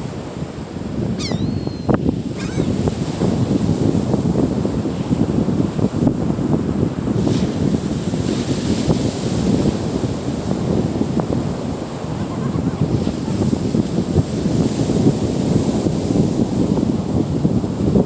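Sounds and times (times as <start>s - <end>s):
wind buffeting microphone: 0.0s - 18.0s
surf washing onto beach: 2.4s - 18.0s.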